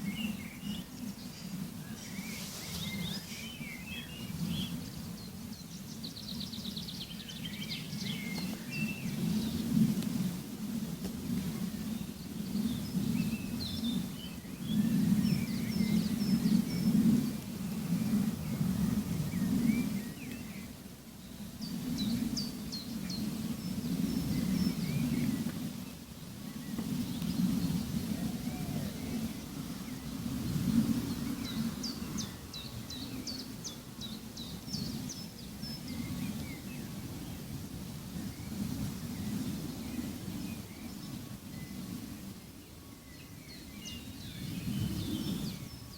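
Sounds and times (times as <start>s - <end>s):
small birds chirping: 0.0s - 10.2s, 11.0s - 37.5s, 38.1s - 45.9s.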